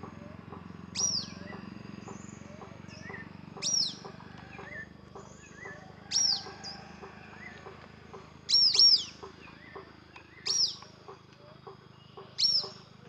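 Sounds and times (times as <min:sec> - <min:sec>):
soft bird chirps: 0:00.0 - 0:13.0.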